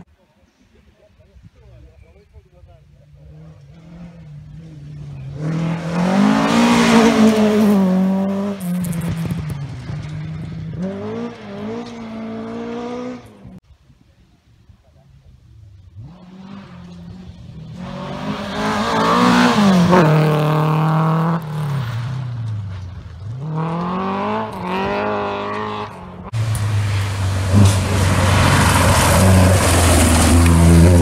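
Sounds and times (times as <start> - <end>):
rally car engines revving: 2.8 - 13.6, 15.8 - 31.0.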